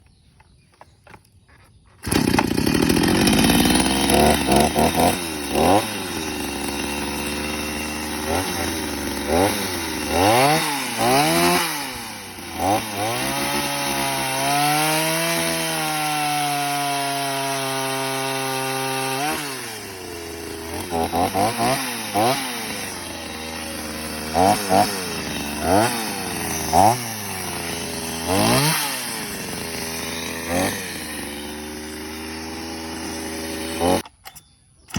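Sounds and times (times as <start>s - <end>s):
chainsaw engine revving: 2.0s - 34.1s.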